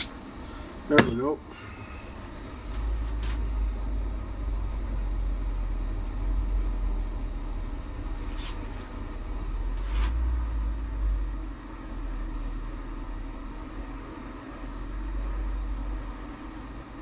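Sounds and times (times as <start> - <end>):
propane torch burning: 0.0 - 17.0.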